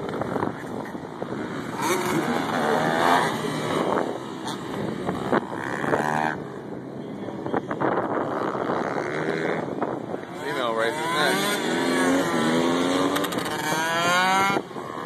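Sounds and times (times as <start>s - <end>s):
dirt bike engines racing: 0.0s - 15.0s.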